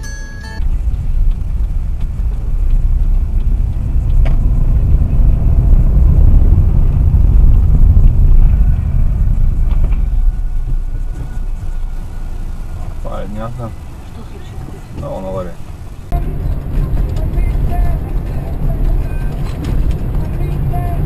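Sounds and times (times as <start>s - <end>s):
car rumbling on road: 0.0s - 21.0s.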